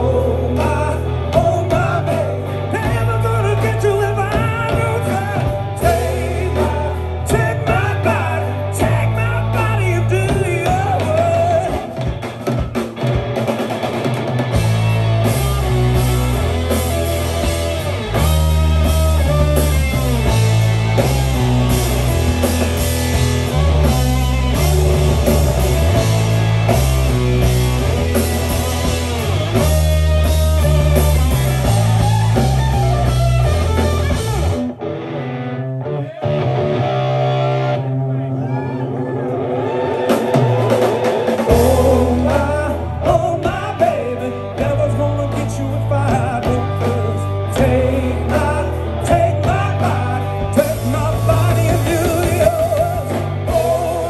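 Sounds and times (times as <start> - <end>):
drum kit: 0.0 - 34.9, 39.6 - 54.0
bass guitar: 0.0 - 54.0
electric guitar: 0.0 - 54.0.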